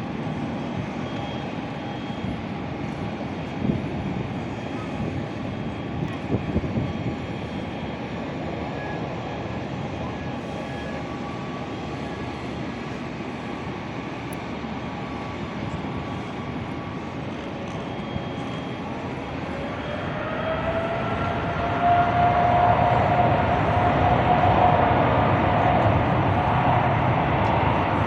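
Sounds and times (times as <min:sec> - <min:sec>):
aeroplane engine rush: 0:00.0 - 0:28.0.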